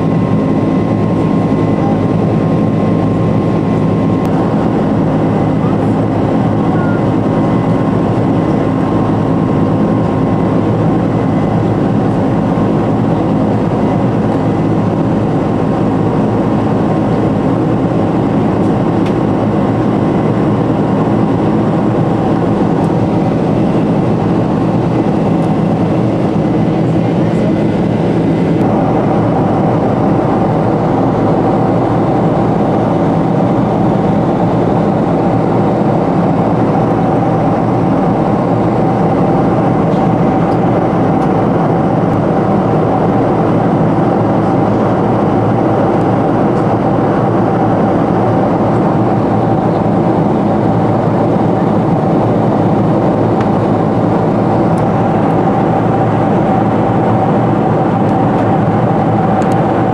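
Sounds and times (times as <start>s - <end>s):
jet engine and airflow noise: 0.0s - 59.9s
steady cabin hum tones: 0.0s - 59.9s.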